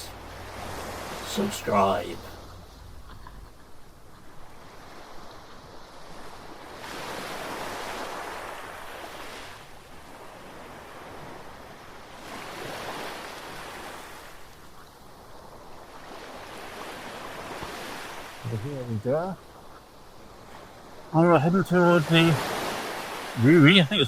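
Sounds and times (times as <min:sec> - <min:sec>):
ocean surf breaking on beach: 0:00.0 - 0:03.4, 0:04.4 - 0:18.9, 0:20.0 - 0:24.0.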